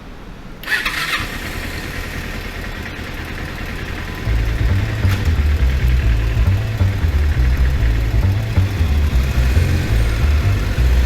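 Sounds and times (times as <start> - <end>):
motorcycle engine starting and idling: 0.6 - 11.0.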